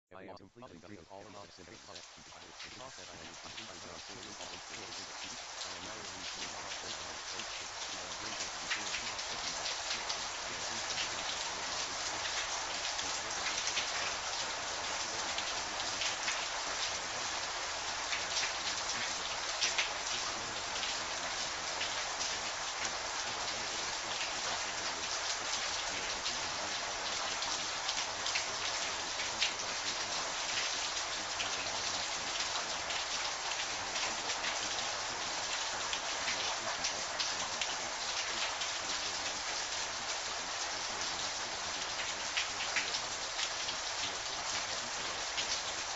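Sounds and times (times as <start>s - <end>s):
steady rain: 0.1s - 45.9s
raindrops ticking on a surface: 0.9s - 45.9s.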